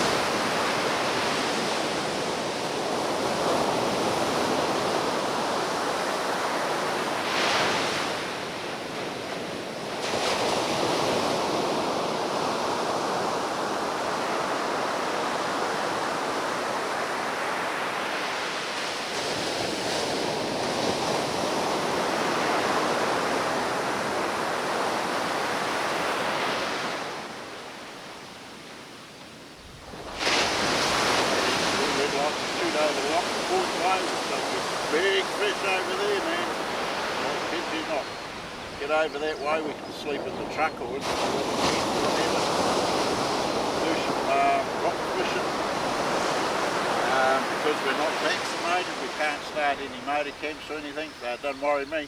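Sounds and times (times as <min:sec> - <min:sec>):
ocean surf breaking: 0:00.0 - 0:52.0.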